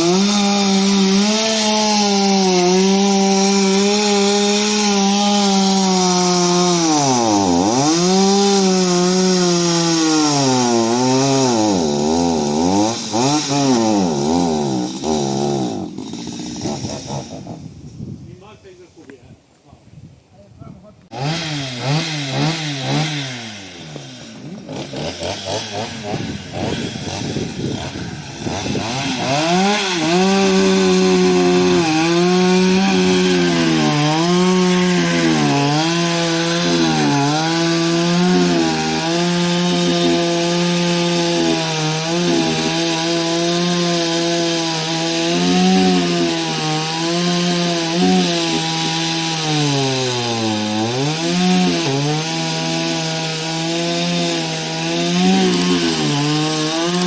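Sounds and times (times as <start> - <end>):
chainsaw cutting wood: 0.0 - 18.5, 21.1 - 57.0.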